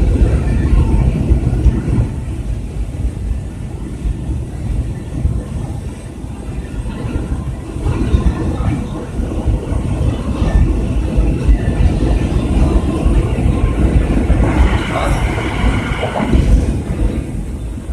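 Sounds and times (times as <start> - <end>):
car road and wind rumble: 0.0 - 17.9.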